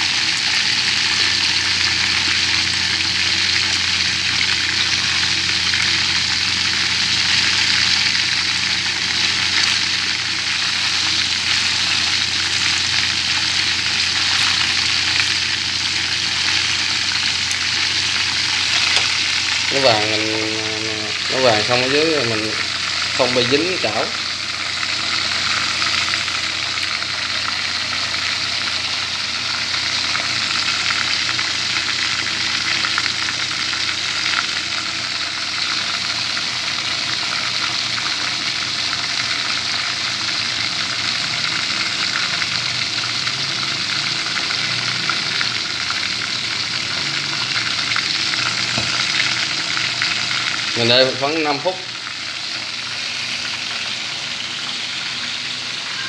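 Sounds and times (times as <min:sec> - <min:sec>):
chicken frying in hot oil: 0:00.0 - 0:56.0.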